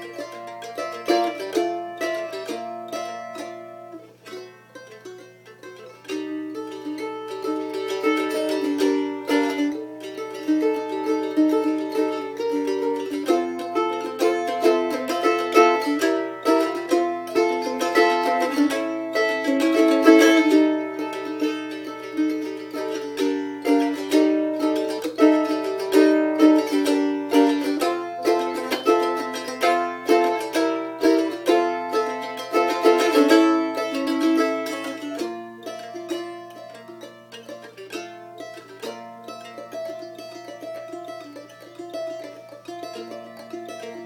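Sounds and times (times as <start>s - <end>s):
mandolin picked melody: 0.0s - 44.0s.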